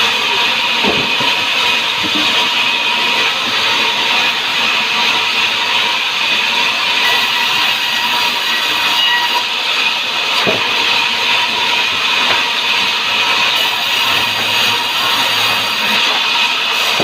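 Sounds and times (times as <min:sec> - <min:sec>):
sawmill saw cutting timber: 0:00.0 - 0:17.0.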